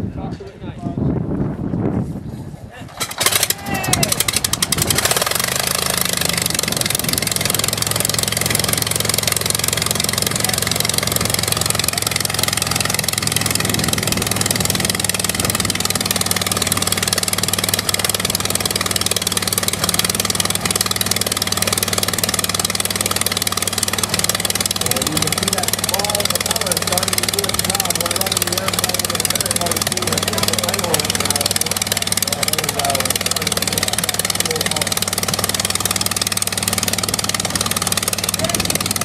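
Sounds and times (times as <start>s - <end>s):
piston engine starting and idling: 2.9s - 39.0s.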